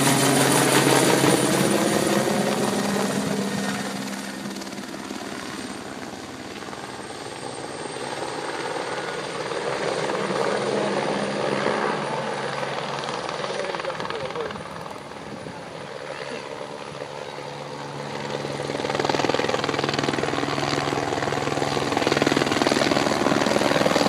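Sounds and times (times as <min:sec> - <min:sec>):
helicopter flying overhead: 0:00.0 - 0:24.0.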